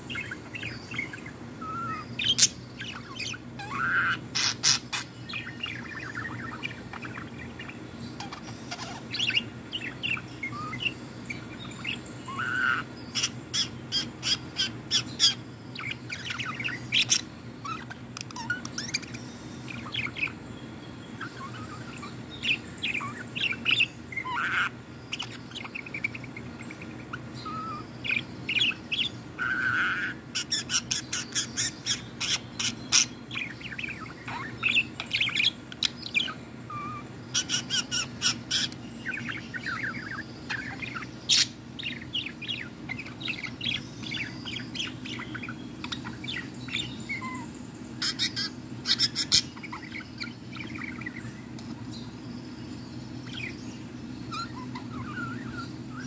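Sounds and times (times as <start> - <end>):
budgerigar chattering: 0.0 - 20.4, 21.1 - 51.4, 54.2 - 56.0.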